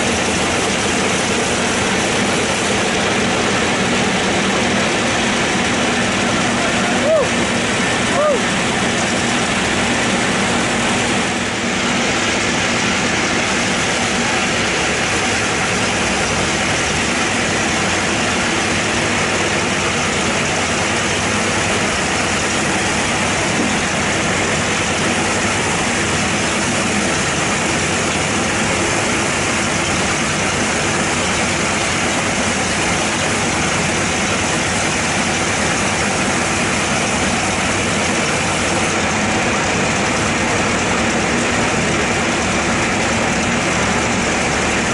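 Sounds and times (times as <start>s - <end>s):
band saw cutting log: 0.0s - 44.9s.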